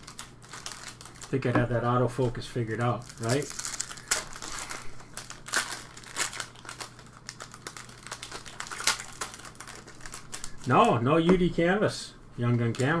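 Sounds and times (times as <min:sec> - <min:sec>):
plastic wrappers crinkling: 0:00.0 - 0:11.4, 0:12.5 - 0:13.0
steady low hum: 0:00.0 - 0:13.0.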